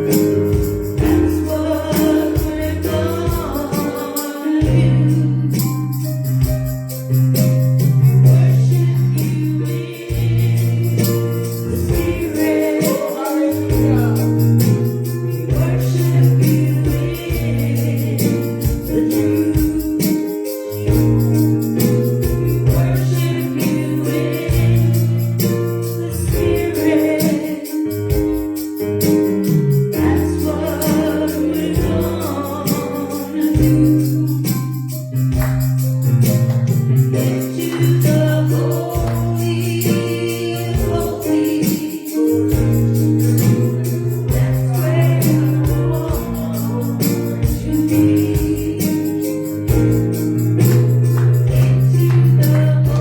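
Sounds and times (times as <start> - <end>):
band bass and chords: 0.0 - 3.7, 4.6 - 12.8, 13.6 - 27.2, 27.9 - 41.6, 42.2 - 53.0
congregation singing gospel: 0.0 - 53.0
tambourine shaking: 0.0 - 53.0.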